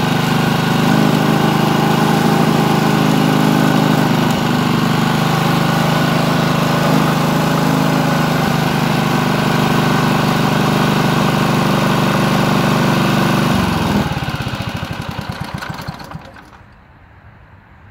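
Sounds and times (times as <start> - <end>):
lawn mower engine running: 0.0 - 16.9.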